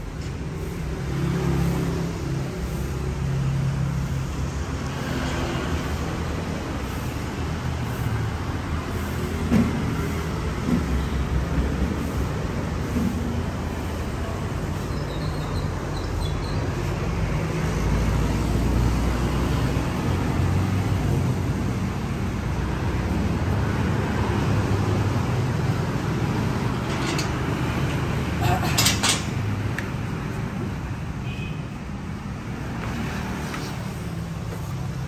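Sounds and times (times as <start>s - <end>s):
rumble of passing vehicles: 0.0s - 35.0s.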